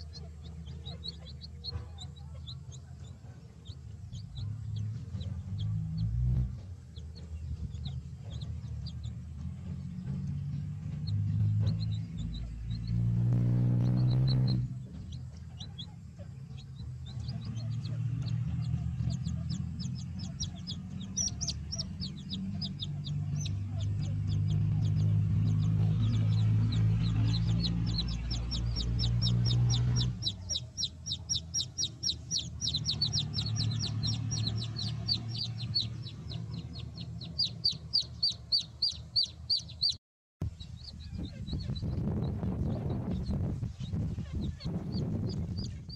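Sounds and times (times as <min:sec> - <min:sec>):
baby chicks peeping: 0:00.0 - 0:45.9
steady low rumble: 0:00.0 - 0:45.9.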